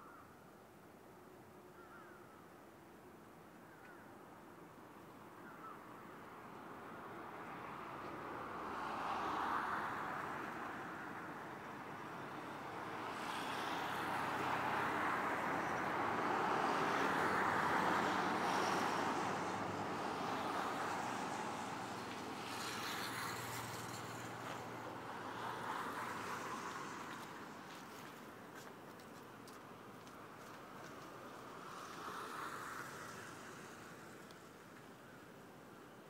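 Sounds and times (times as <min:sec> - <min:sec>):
passing vehicles: 0:05.8 - 0:36.0.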